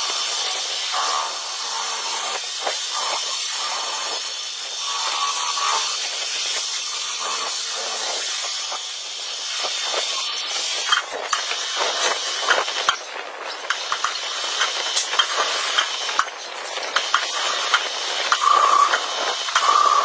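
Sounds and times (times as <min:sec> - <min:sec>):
high steady whine: 0:00.0 - 0:20.0
lathe cutting metal: 0:00.0 - 0:20.0.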